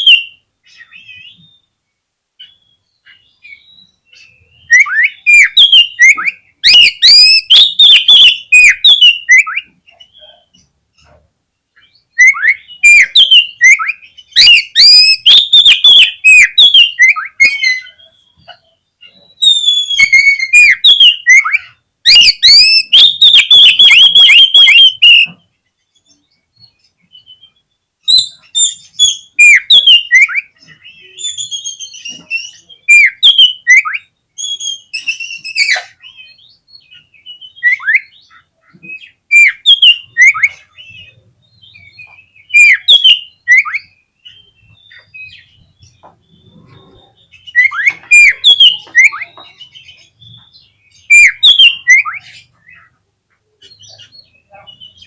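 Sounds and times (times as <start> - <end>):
bird singing whistled phrases: 0.0 - 1.7, 2.4 - 10.4, 11.8 - 25.4, 26.6 - 38.3, 38.9 - 46.5, 47.3 - 52.5.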